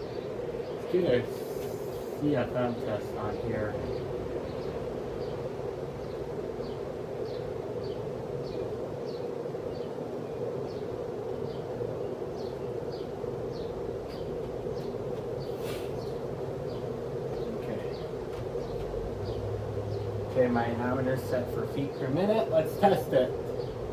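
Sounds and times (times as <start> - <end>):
ceiling fan motor hum: 0.0 - 23.9.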